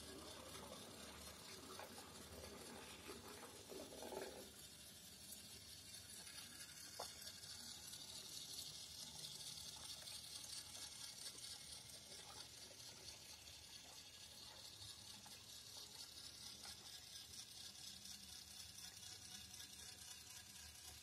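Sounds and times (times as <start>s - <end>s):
toy train motor whirring: 0.0s - 21.0s
wheels rolling on wooden track: 0.0s - 21.0s.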